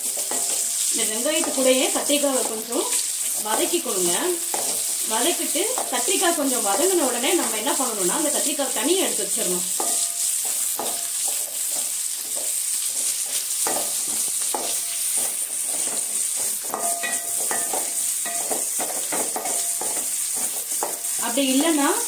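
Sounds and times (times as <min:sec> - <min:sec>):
oil sizzling in a pan: 0:00.0 - 0:22.0
wooden spatula scraping a pan: 0:00.0 - 0:22.0.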